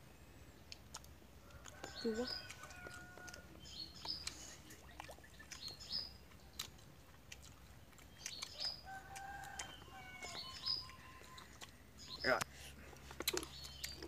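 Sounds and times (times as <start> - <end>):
birds chirping and calling: 1.6 - 6.8, 7.6 - 14.0.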